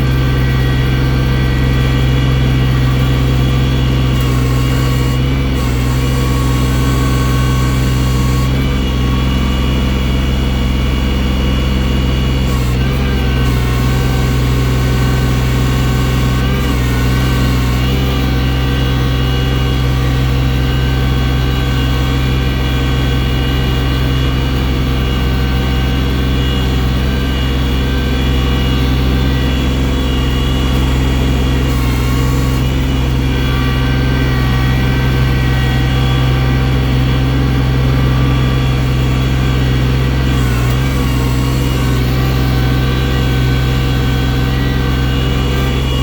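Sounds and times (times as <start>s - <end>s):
snow-clearing machine engine running: 0.0s - 46.0s.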